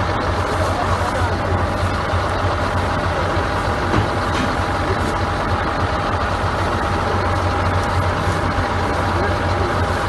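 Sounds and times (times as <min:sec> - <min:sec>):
heavy engine idling: 0:00.0 - 0:10.0.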